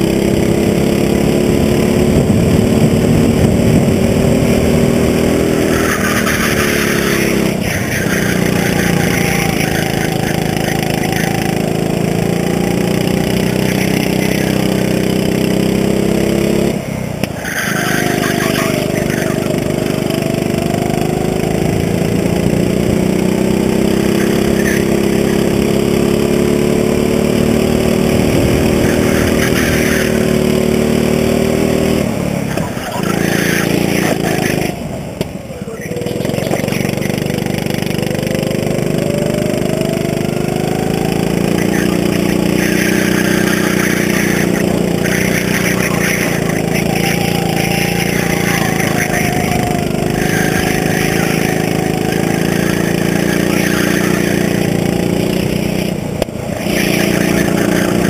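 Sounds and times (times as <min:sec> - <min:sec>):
go-kart engine at speed: 0:00.0 - 0:58.0.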